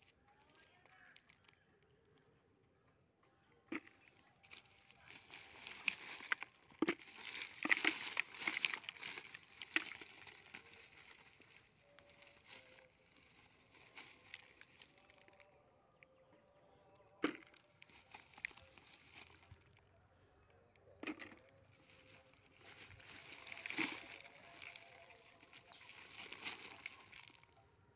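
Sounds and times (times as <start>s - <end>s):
dry leaves and roots crackling: 3.7s - 20.2s, 20.9s - 27.9s.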